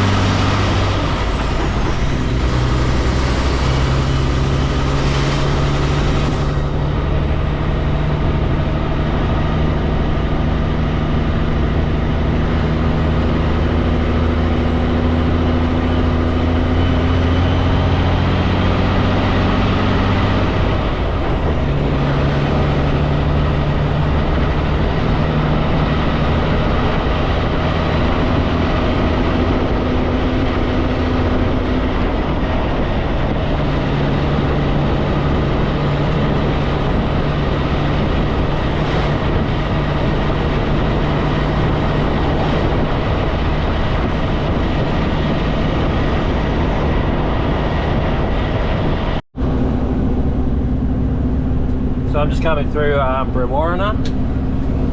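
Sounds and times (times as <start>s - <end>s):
diesel truck engine drone: 0.0s - 54.9s
road noise: 0.0s - 54.9s.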